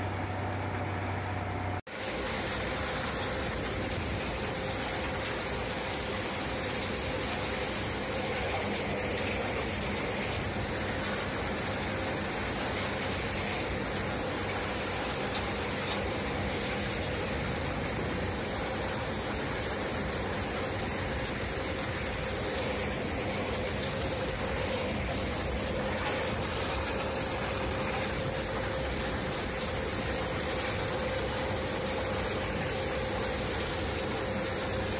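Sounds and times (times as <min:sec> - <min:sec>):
low machine hum: 0:00.0 - 0:34.9
drum churning waste hiss: 0:01.9 - 0:34.9.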